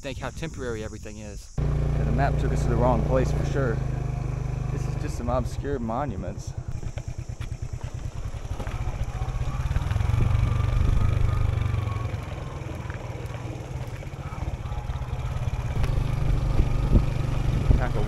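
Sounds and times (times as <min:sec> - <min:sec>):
motorbike engine running: 0:01.6 - 0:18.0.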